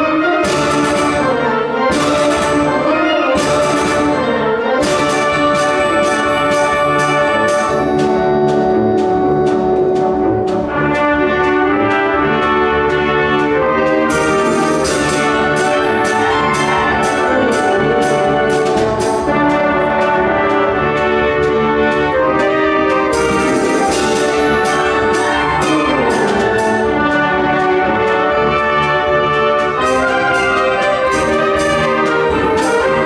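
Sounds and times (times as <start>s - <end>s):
concert band playing: 0.0s - 33.0s
percussion strikes: 0.0s - 33.0s.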